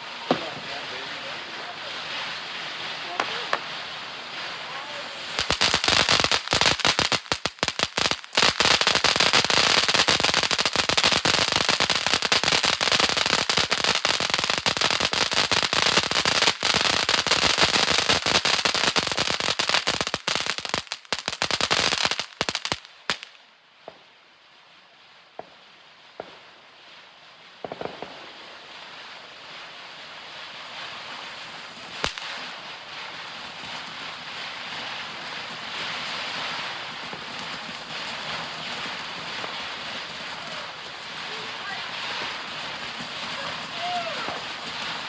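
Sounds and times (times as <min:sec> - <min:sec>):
firework fountain hissing and crackling: 0:00.0 - 0:45.0.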